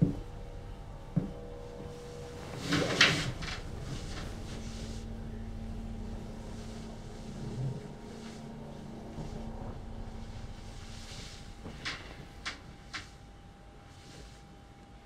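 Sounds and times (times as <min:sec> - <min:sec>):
low steady hum: 0:00.0 - 0:15.0
bedding rustling: 0:01.3 - 0:14.6.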